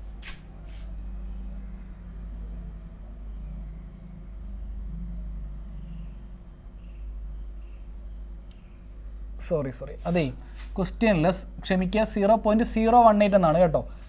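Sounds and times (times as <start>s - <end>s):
cricket chirping: 0.0s - 14.0s
low steady hum: 0.0s - 14.0s.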